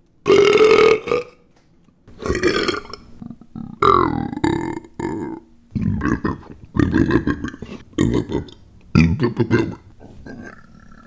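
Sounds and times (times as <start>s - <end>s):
man burping: 2.1s - 11.0s.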